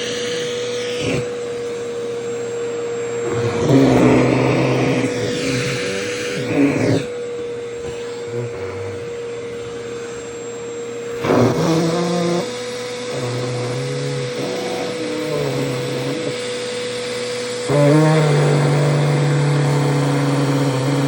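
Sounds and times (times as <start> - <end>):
nozzle sucking at fabric: 0.0 - 1.4, 3.2 - 7.2, 7.9 - 9.7, 11.1 - 21.0
vacuum cleaner running: 0.0 - 21.0.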